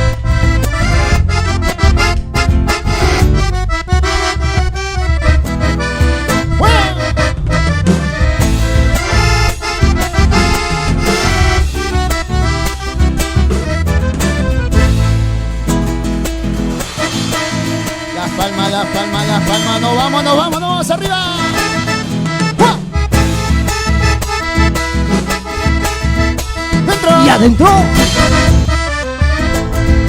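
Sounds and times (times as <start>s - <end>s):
accordion melody: 0.0s - 30.0s
bass and drum beat: 0.0s - 30.0s.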